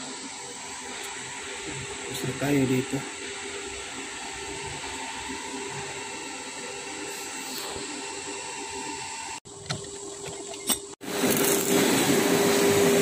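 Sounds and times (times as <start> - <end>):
metal lathe humming: 0.0 - 13.0.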